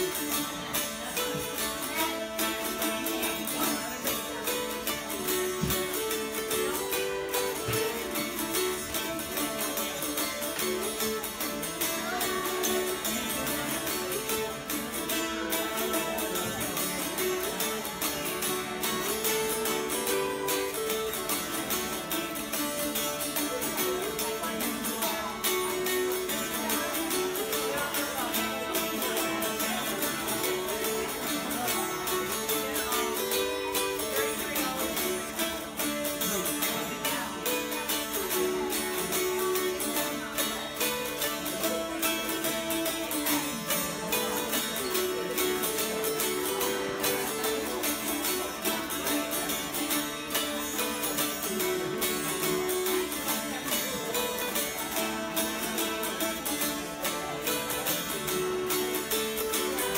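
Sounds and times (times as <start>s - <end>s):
mountain dulcimers strummed: 0.0s - 59.9s.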